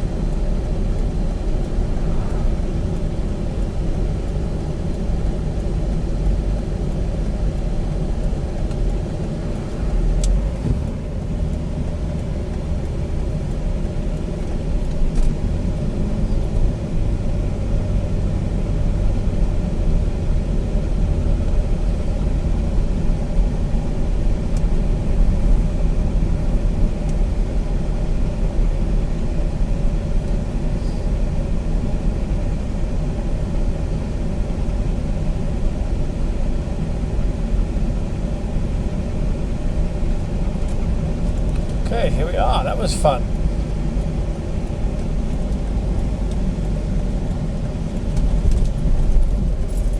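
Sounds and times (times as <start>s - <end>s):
car cabin road and engine rumble: 0.0s - 49.9s.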